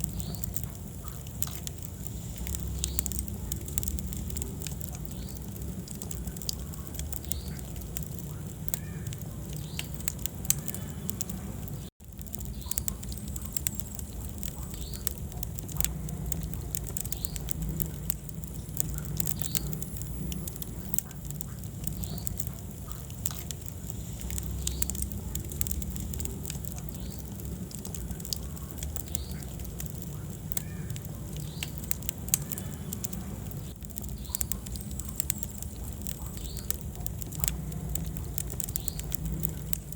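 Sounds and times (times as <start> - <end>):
fire pops and snaps: 0.0 - 39.9
low rumble of flames: 0.0 - 39.9
wood fire crackling: 0.0 - 39.9.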